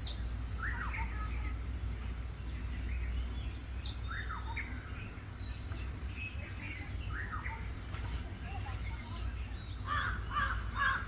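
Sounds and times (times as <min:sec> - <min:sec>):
low steady rumble: 0:00.0 - 0:11.0
small birds chirping: 0:00.0 - 0:11.0.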